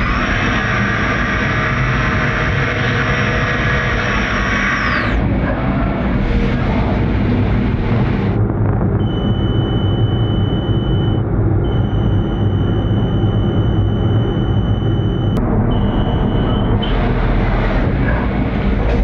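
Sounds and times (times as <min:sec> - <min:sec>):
high machine whine: 0:00.0 - 0:19.0.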